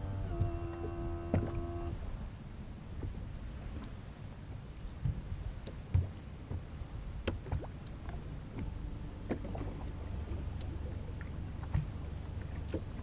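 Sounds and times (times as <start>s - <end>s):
rumble of water and wind: 0.0s - 13.0s.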